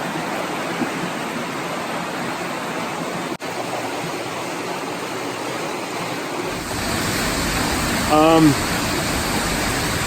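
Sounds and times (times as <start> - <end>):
water rushing: 0.0 - 10.0.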